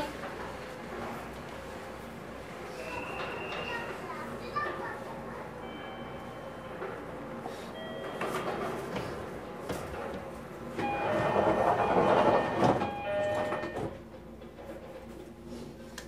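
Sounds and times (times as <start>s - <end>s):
train doors closing with tones: 0.0s - 15.9s
train interior hum: 0.0s - 16.0s.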